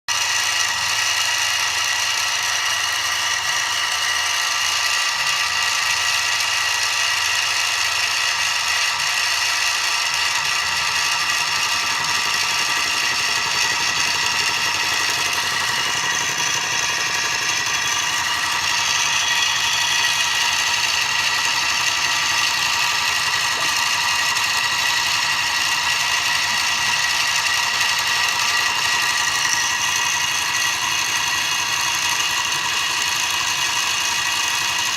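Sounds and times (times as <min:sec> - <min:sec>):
milling machine whine: 0:00.1 - 0:34.9
spindle and cutter rattling: 0:00.1 - 0:34.9.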